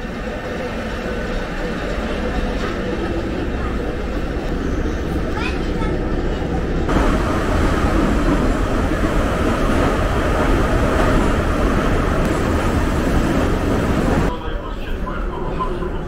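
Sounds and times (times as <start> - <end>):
metro train running in tunnel: 0.0 - 16.0.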